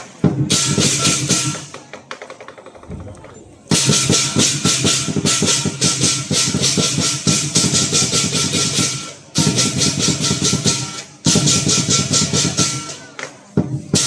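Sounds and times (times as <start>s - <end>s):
drum beaten fast: 0.0s - 1.9s, 2.6s - 14.0s
cymbals clashing: 0.3s - 1.8s, 3.7s - 14.0s.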